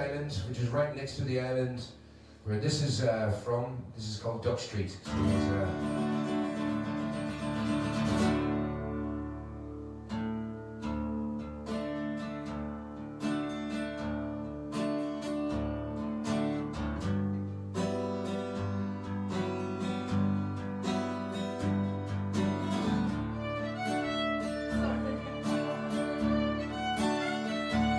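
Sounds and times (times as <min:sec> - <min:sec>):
acoustic guitar strumming: 0:05.1 - 0:27.9.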